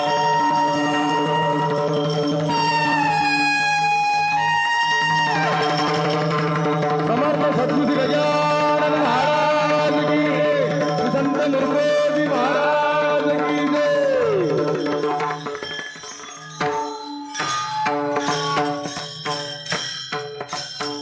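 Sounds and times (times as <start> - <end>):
sharp percussion strokes: 0.0 - 21.0
tabla: 0.0 - 21.0.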